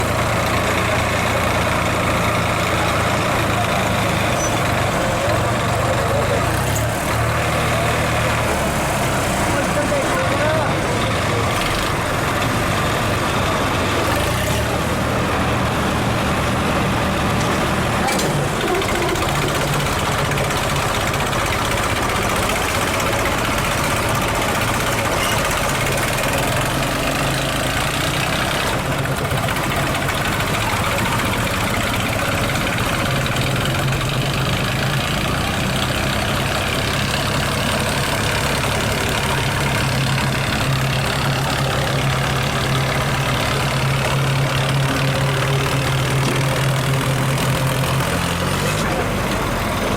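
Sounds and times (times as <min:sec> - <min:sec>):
tractor diesel engines under load: 0:00.0 - 0:49.9.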